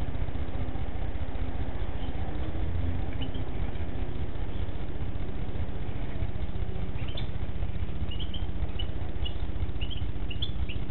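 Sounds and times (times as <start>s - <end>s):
goldfinches chirping: 0.0s - 10.9s
steady low hum: 0.0s - 10.9s.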